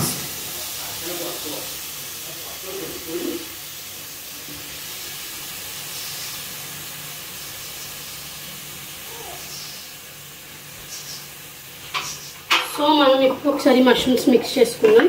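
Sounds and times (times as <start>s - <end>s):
vegetables sizzling in butter: 0.0s - 15.0s.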